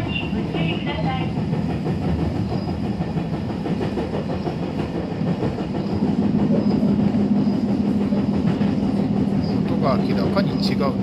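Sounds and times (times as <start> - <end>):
rhythmic knocking: 0.0 - 11.0
train wheels rumbling on rail: 0.0 - 11.0.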